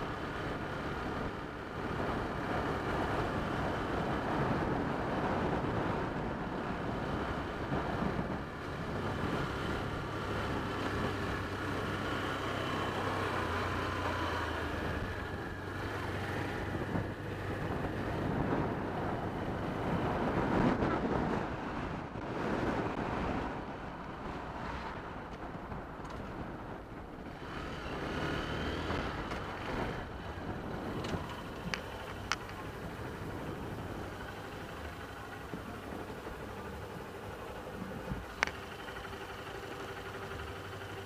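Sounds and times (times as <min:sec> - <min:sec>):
wind noise on microphone: 0:00.0 - 0:12.3, 0:14.5 - 0:38.6
motorcycle engine hum: 0:00.0 - 0:41.0
road rush: 0:00.0 - 0:41.0.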